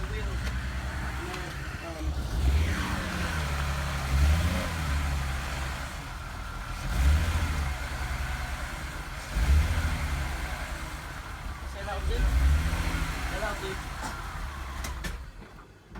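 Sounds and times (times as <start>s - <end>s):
car engine revving: 0.0s - 15.6s.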